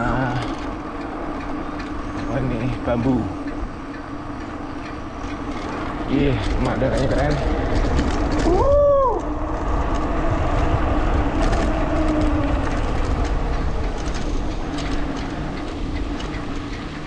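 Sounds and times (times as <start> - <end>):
bike tyre rumble: 0.0 - 17.0
wind buffeting microphone: 0.0 - 17.0.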